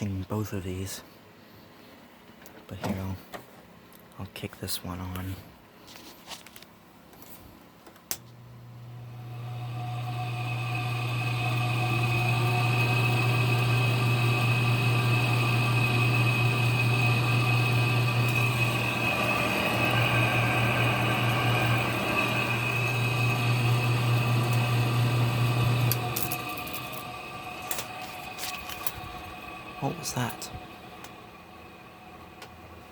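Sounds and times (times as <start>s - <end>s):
air conditioner fan humming: 0.0s - 32.9s.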